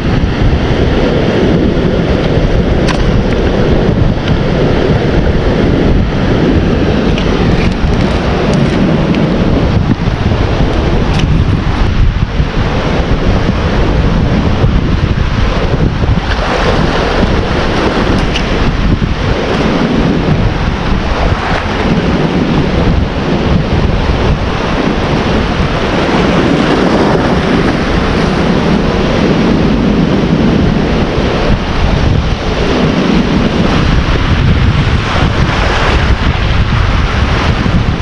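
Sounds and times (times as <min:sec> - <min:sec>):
ocean surf rushing: 0:00.0 - 0:38.0
strong wind gusting on microphone: 0:00.0 - 0:38.0.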